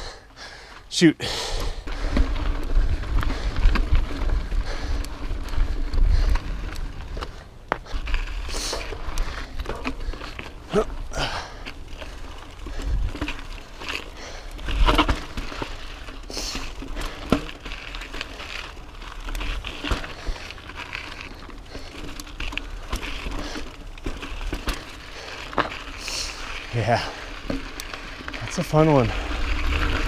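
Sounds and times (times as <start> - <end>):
bike rattling over rocks: 1.6 - 30.0.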